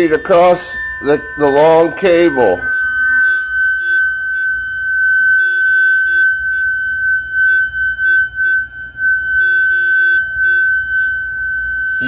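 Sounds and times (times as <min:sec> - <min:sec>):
crackly buzzes: 0:00.0 - 0:12.0
high electronic whine: 0:00.0 - 0:12.0.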